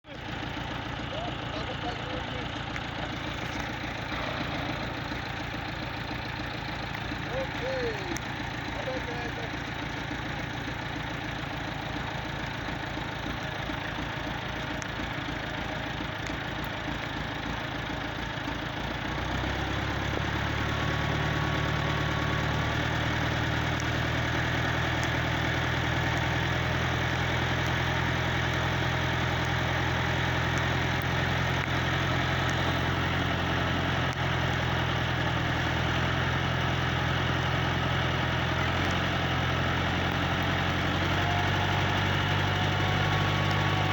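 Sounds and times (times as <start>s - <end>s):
tractor engine revving: 0.0s - 43.9s.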